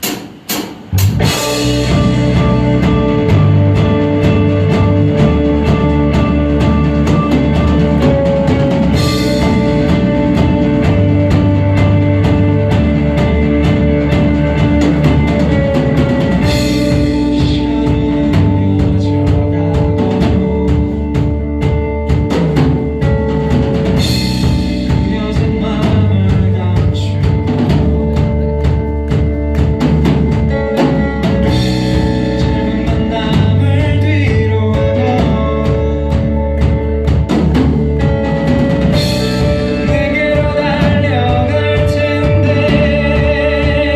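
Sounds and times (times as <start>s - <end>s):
drum kit beat: 0.0s - 43.9s
low bass notes: 0.9s - 43.9s.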